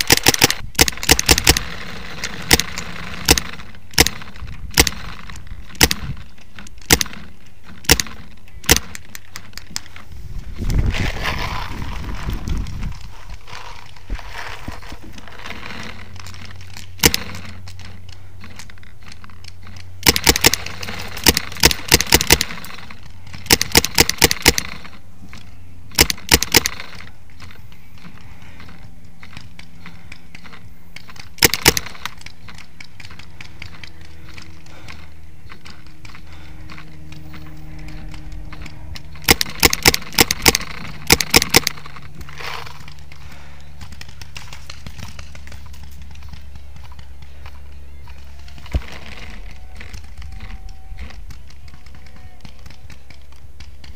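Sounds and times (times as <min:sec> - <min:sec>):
low hum: 0:00.0 - 0:53.9.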